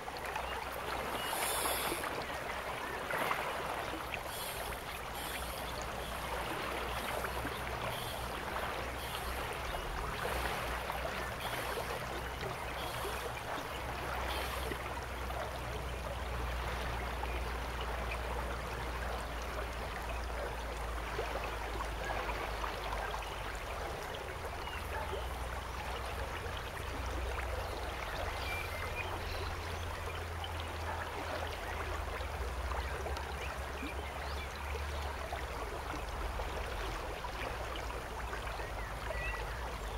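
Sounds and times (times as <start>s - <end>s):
river water rushing over shallows: 0.0s - 39.9s.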